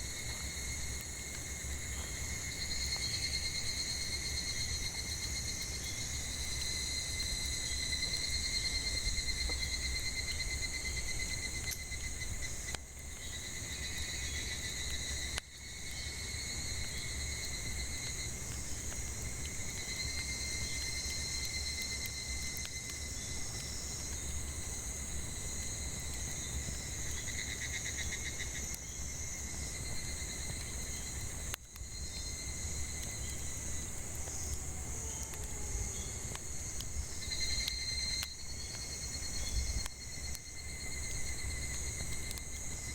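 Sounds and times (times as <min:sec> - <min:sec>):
campfire crackling: 0:00.0 - 0:42.9
cicadas chorus: 0:00.0 - 0:42.9.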